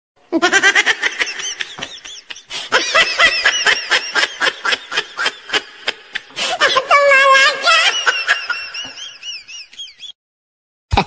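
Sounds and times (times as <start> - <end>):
person laughing hard: 0.3 - 10.2.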